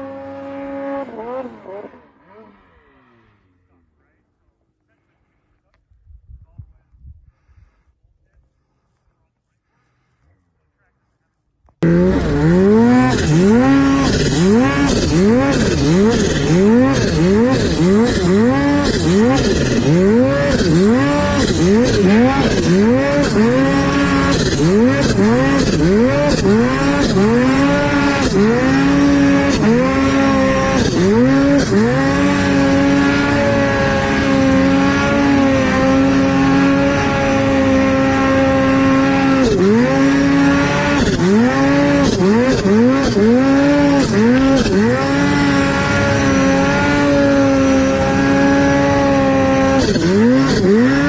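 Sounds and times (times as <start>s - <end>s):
snowmobile engine revving: 0.0s - 5.4s, 11.8s - 51.0s.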